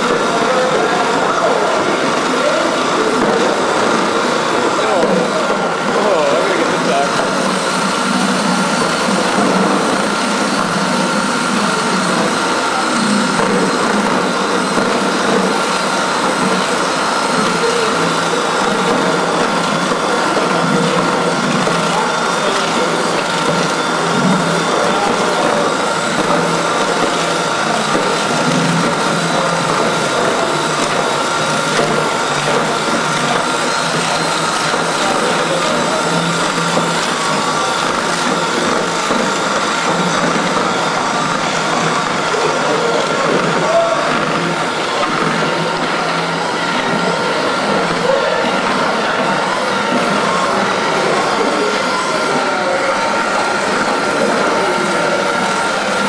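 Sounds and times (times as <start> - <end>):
machine whining and scraping: 0.0 - 56.0.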